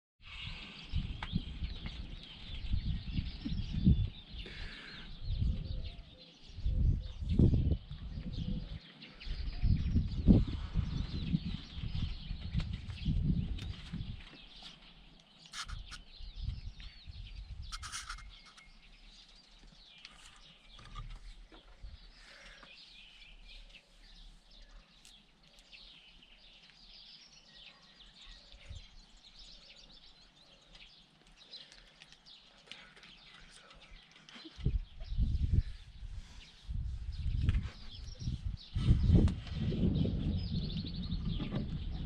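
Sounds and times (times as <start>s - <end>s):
small birds chirping: 0.2s - 42.0s.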